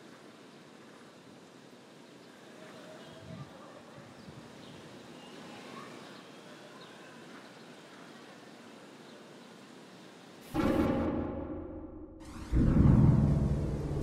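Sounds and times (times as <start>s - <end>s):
steady background hiss and hum: 0.0s - 14.0s.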